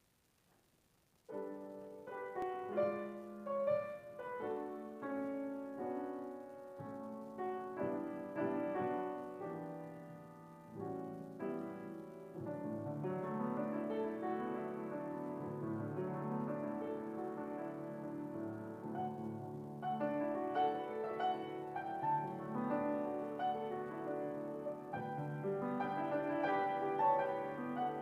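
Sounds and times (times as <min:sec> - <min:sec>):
grand piano playing: 0:01.3 - 0:28.0.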